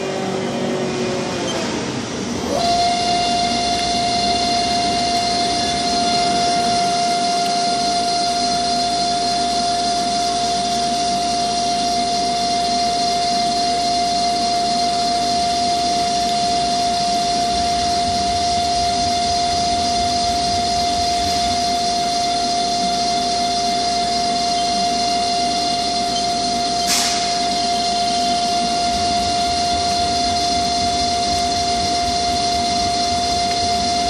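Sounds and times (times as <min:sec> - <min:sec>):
lathe spindle whine: 0:00.0 - 0:34.0
machine hum: 0:00.0 - 0:34.0.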